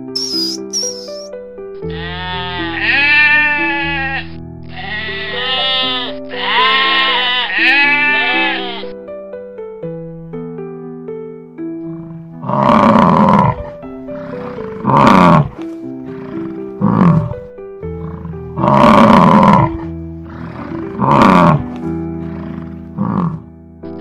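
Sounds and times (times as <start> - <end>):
background music simple melody: 0.0 - 24.0.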